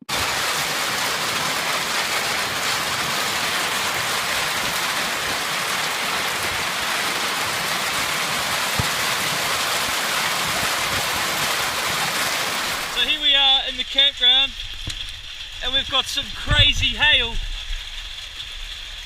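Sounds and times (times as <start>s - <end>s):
hail and heavy rain: 0.0s - 19.0s.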